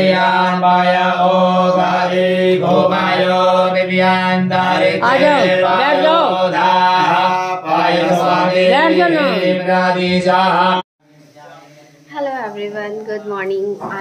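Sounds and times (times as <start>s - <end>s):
melodic chanting: 0.0s - 11.4s.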